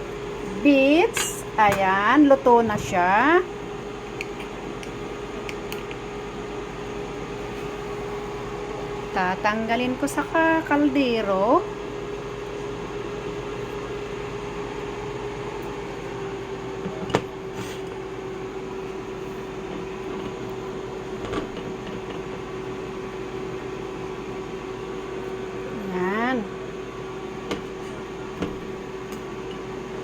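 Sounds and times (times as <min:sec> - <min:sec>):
appliance humming: 0:00.0 - 0:30.0.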